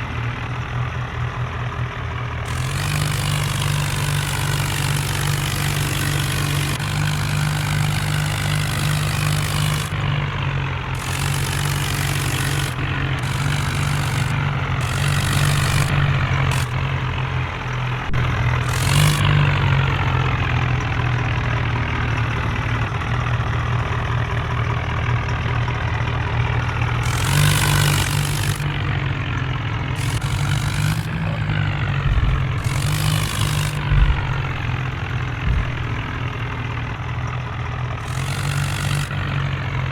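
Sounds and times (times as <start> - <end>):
diesel tractor engines idling: 0.0 - 39.9.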